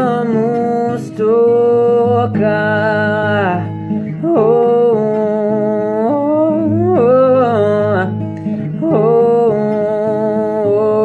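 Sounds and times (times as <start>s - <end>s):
acoustic guitar: 0.0s - 11.0s
man singing wordless phrases: 0.0s - 11.0s.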